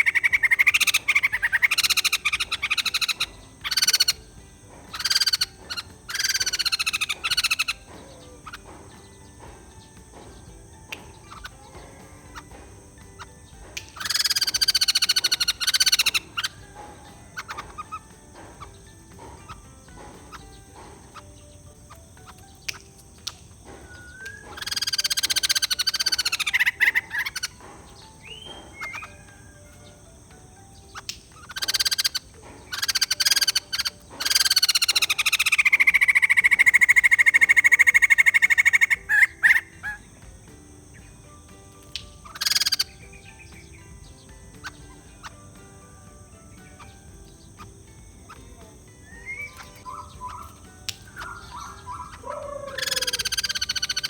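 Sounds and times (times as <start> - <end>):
bird chattering calls: 0.0 - 54.0
quiet bird ticks and chirps: 0.0 - 54.0.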